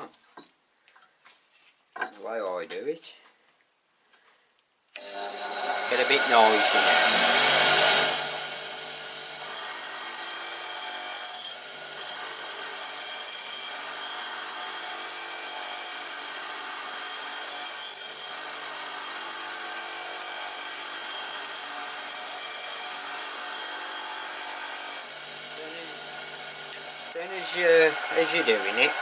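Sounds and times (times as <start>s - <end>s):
grinder motor hum: 5.0s - 29.0s
steel grinding on bench grinder: 5.0s - 29.0s.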